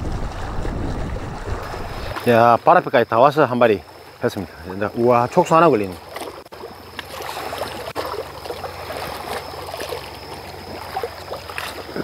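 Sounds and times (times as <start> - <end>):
sea water washing against rocks: 0.0 - 12.0.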